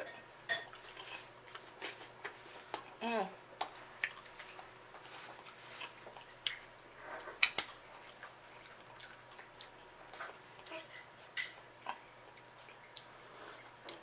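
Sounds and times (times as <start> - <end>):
wet chewing and lip-smacking: 0.7 - 4.7, 5.3 - 14.0.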